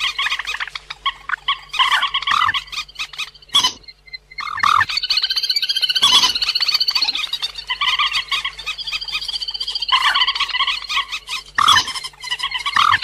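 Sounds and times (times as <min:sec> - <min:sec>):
waterbird chattering call: 0:00.0 - 0:13.0.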